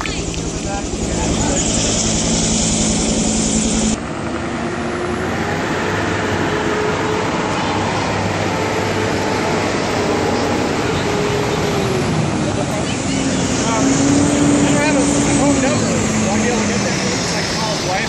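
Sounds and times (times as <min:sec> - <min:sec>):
helicopter rotor chop: 0:00.0 - 0:18.0
rough engine rumble with hum: 0:00.0 - 0:18.0.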